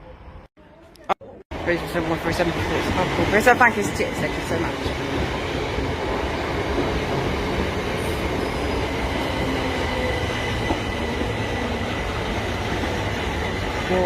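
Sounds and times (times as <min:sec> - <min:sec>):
train rumbling: 0:01.5 - 0:14.0.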